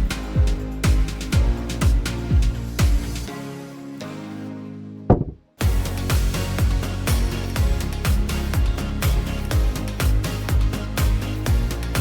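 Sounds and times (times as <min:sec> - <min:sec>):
deep kick drum beat: 0:00.0 - 0:03.2, 0:05.1 - 0:12.0.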